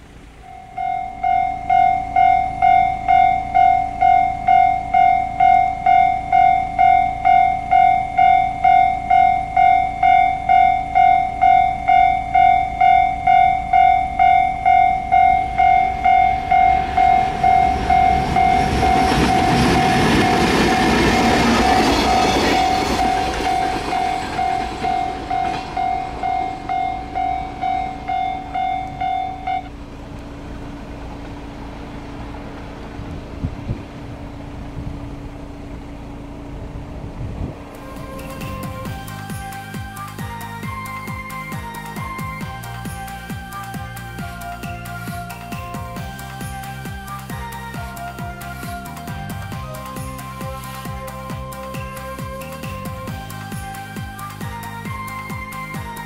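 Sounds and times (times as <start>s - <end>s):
level-crossing warning bell ringing: 0.0s - 29.8s, 37.7s - 56.0s
train passing: 0.0s - 56.0s.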